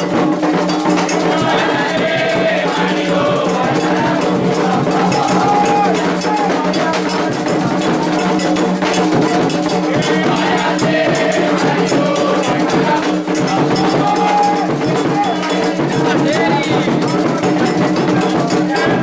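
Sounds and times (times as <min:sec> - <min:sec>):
bell or wood-block clapper: 0:00.0 - 0:19.0
hand drums beating: 0:00.0 - 0:19.0
voices singing: 0:00.0 - 0:19.0.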